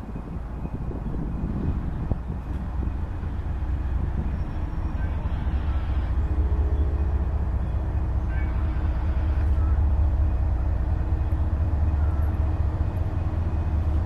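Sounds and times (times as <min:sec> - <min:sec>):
approaching locomotive rumble: 0:00.0 - 0:14.0
faint engine hum: 0:00.0 - 0:14.0.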